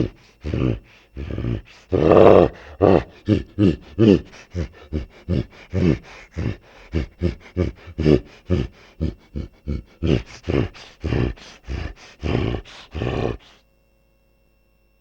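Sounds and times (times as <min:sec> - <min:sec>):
animal-like rapid panting: 0:00.0 - 0:13.6.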